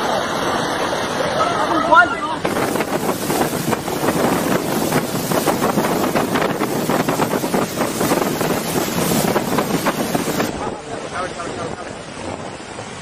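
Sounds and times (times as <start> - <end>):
fast-flowing river rushing: 0.0 - 13.0
wind buffeting microphone: 1.9 - 13.0.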